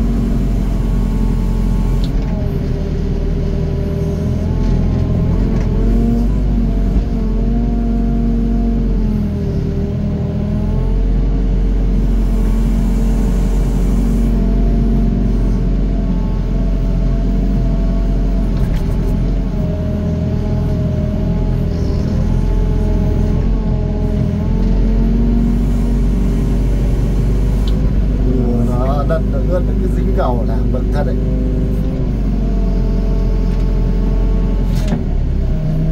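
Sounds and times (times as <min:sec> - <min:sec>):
excavator diesel engine: 0:00.0 - 0:35.9.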